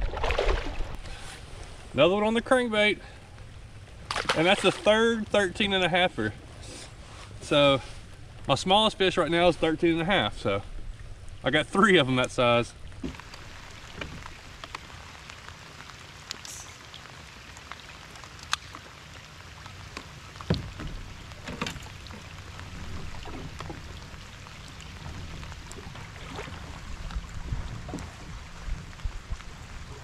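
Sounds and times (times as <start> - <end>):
steady rain: 1.0 - 30.0.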